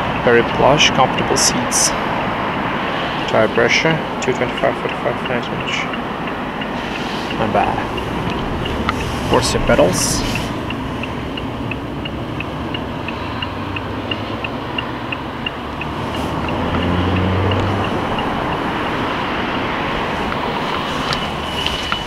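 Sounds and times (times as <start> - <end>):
car engine idling: 0.0 - 22.0
light even ticking: 0.0 - 22.0.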